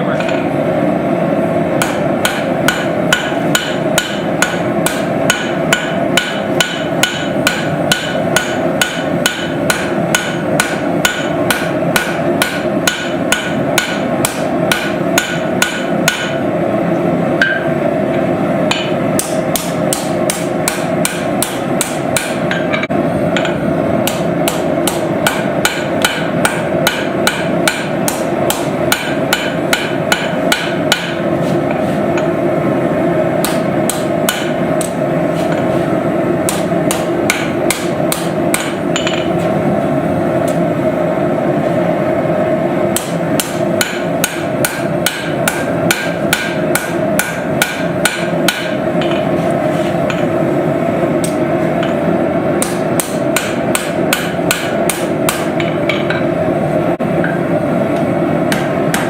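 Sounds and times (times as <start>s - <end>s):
hammer forging steel on anvil: 1.7s - 39.7s, 42.6s - 56.5s, 57.1s - 59.0s.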